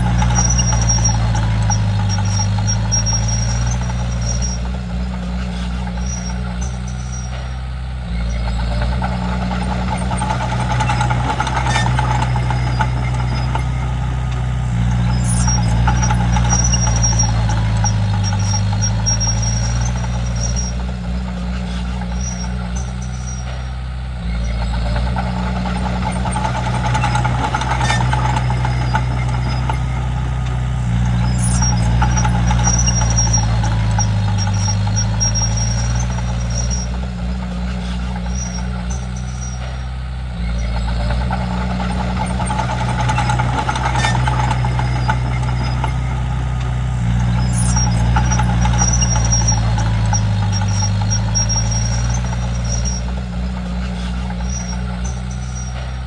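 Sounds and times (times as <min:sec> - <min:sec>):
bulldozer diesel engine running: 0:00.0 - 0:56.0
faint high squeaks: 0:00.0 - 0:56.0.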